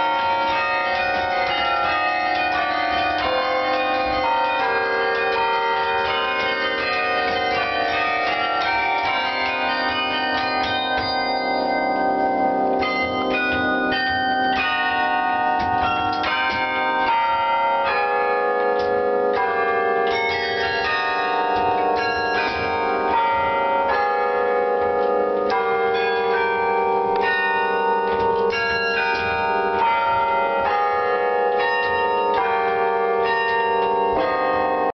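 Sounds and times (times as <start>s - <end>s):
carillon bells ringing: 0.0s - 35.0s.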